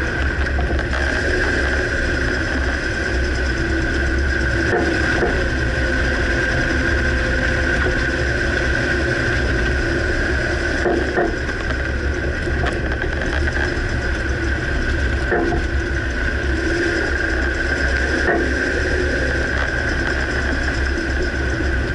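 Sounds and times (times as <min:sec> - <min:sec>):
pickup engine rumble: 0:00.0 - 0:21.9.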